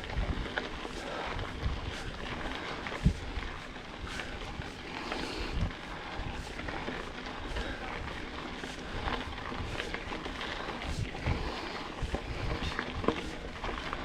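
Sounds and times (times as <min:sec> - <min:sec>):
bike riding noise: 0:00.0 - 0:14.0
wind buffeting microphone: 0:00.0 - 0:14.0.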